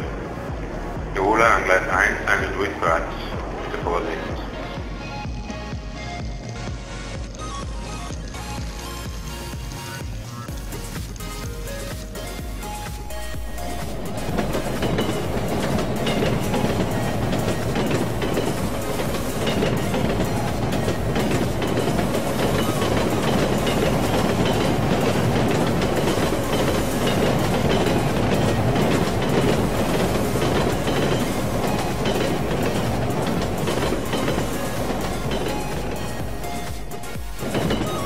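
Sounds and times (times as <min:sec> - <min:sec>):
train wheels clattering: 0:00.0 - 0:38.0.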